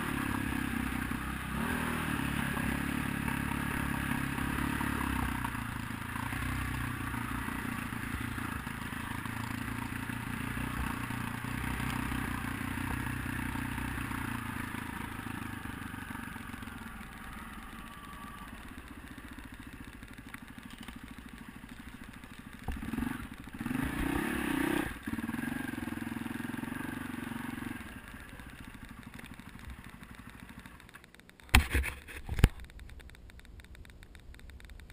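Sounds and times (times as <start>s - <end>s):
dirt bike engine revving: 0.0s - 31.1s.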